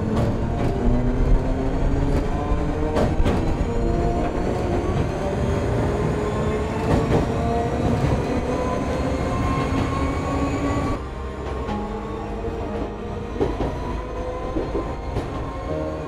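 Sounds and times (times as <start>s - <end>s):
track knocks: 0.0s - 5.3s, 6.7s - 10.1s, 11.4s - 15.8s
train wheels rumbling on rail: 0.0s - 16.0s.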